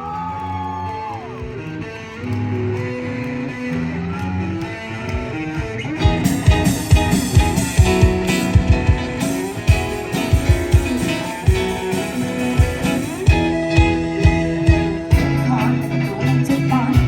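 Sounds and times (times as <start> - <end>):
drums: 1.0 - 17.0
bass notes: 1.4 - 17.0
guitar notes: 1.6 - 17.0.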